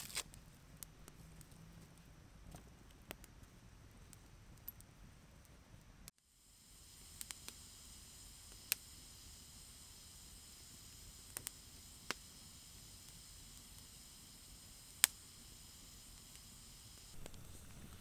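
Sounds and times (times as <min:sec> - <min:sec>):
campfire crackling and popping: 0:02.4 - 0:06.2, 0:06.8 - 0:18.0.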